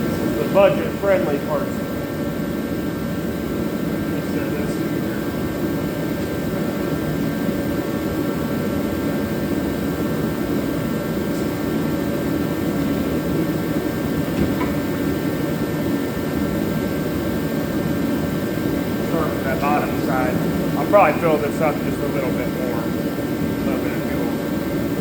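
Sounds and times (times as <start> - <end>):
space heater blowing hum: 0.0 - 25.0.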